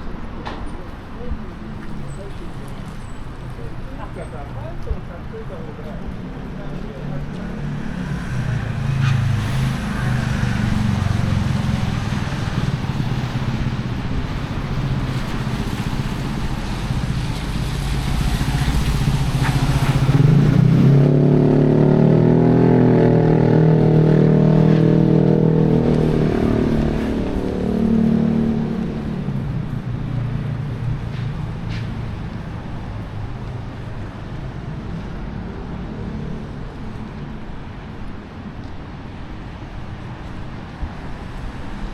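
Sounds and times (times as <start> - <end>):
close vehicle engine: 0.0 - 41.5
vehicles passing on wet road: 0.0 - 41.9.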